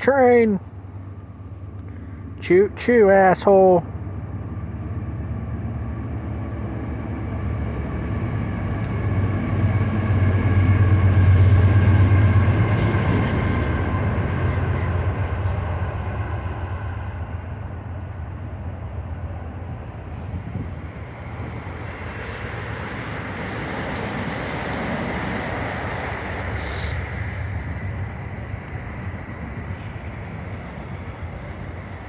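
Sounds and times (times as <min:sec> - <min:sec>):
train passing rumble: 0:00.0 - 0:32.0.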